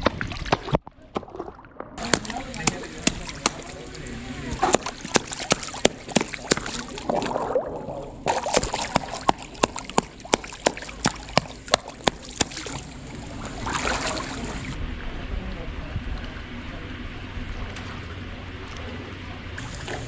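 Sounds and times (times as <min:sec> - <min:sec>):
water sloshing: 0:00.0 - 0:15.2, 0:17.3 - 0:20.0.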